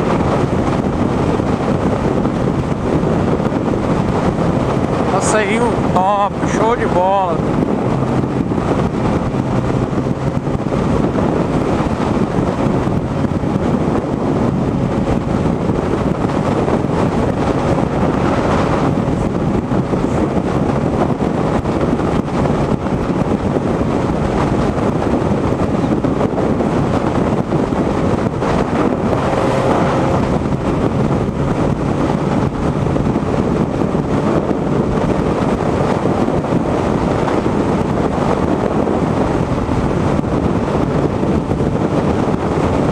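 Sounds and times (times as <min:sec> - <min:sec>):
motorcycle engine drone: 0:00.0 - 0:42.9
wind rushing over microphone: 0:00.0 - 0:42.9.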